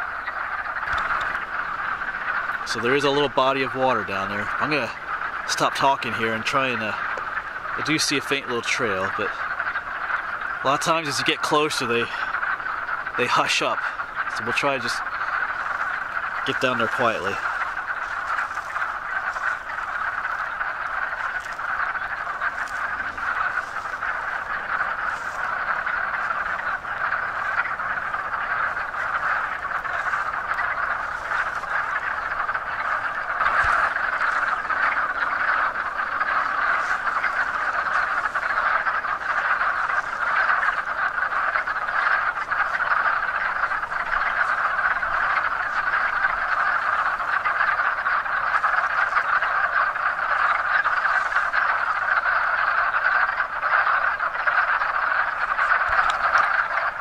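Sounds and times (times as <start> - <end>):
frogs croaking in chorus: 0.0 - 57.0.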